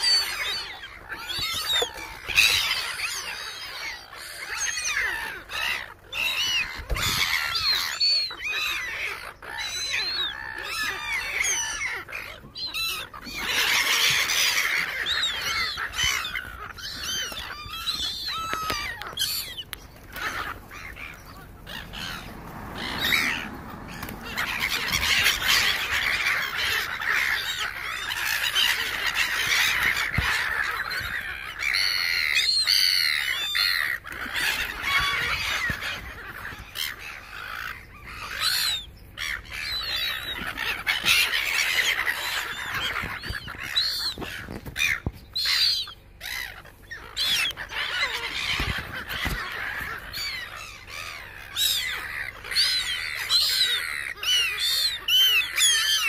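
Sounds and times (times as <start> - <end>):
gulls squawking: 0.0 - 56.0.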